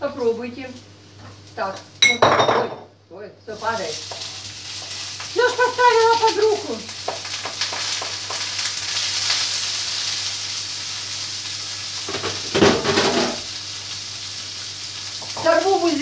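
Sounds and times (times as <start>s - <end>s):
range hood humming: 0.0s - 16.0s
vegetables sizzling in a pan: 0.0s - 16.0s.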